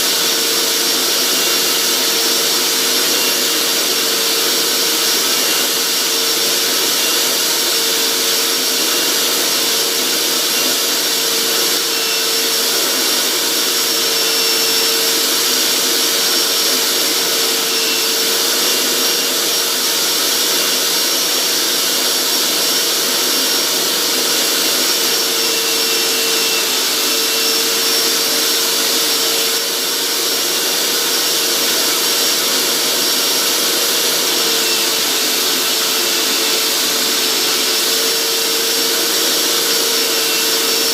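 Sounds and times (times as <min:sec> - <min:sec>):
carpet cleaner motor whining: 0:00.0 - 0:40.9.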